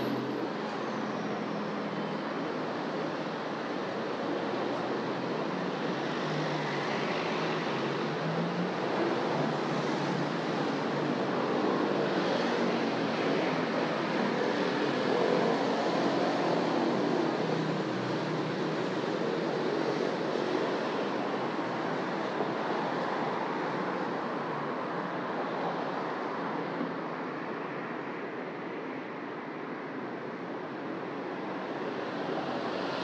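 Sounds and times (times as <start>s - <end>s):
vehicles passing on city street: 0.0s - 33.0s.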